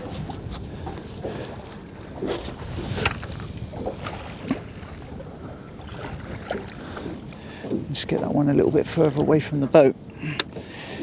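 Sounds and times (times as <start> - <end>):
wind on microphone: 0.0 - 9.3
water slapping boat hull: 0.0 - 11.0.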